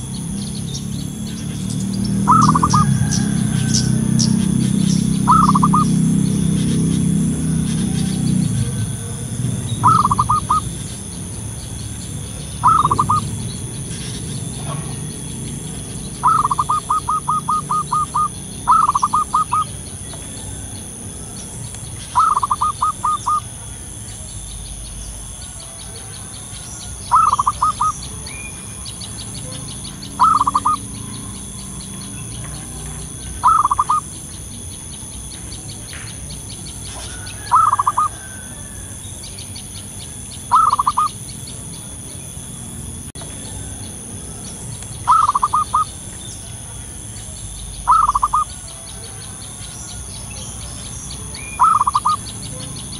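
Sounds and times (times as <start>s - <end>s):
dove cooing: 2.0s - 34.4s, 36.8s - 39.0s, 40.5s - 41.2s, 43.2s - 52.9s.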